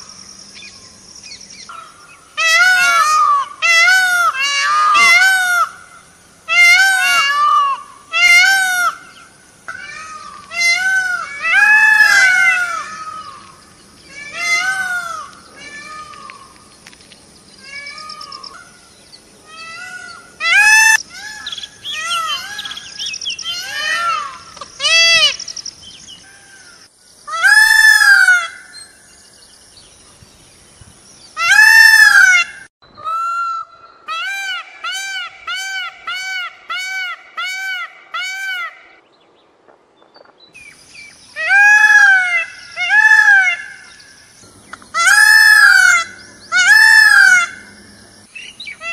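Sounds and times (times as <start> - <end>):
peacock wailing calls: 1.7 - 16.7, 17.6 - 25.6, 26.2 - 29.0, 31.4 - 39.0, 41.3 - 48.9.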